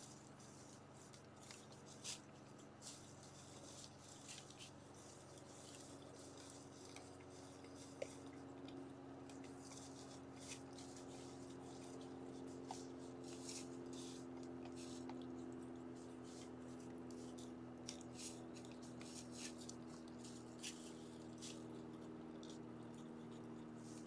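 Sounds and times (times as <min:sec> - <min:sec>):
deer rustling in dry leaves: 0:00.0 - 0:24.0
steady low hum: 0:00.0 - 0:24.0.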